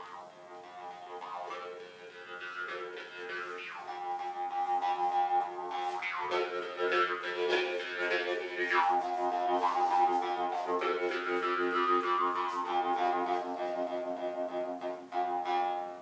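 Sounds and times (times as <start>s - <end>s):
harmonica chords: 0.0s - 16.0s.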